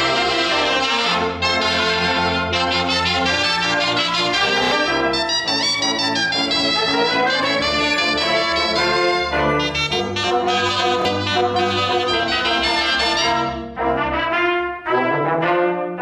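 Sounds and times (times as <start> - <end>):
wind and brass band music: 0.0 - 16.0.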